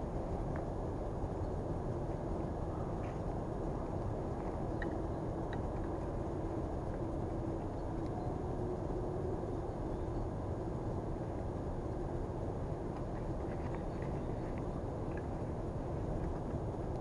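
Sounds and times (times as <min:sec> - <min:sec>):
faint hum: 0:00.0 - 0:17.0
low rumbling noise: 0:00.0 - 0:17.0.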